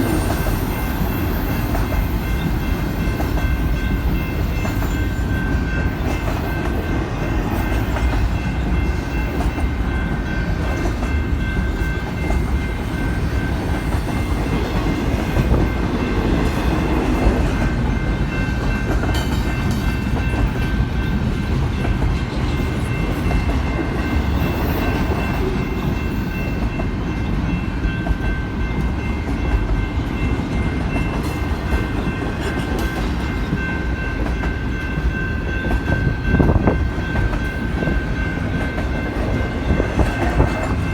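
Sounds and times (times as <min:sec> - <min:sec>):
steel wheels rumbling on rail: 0:00.0 - 0:40.9.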